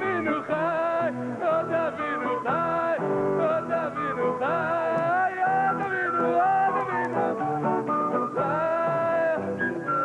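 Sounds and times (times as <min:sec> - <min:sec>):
acoustic guitar: 0:00.0 - 0:10.0.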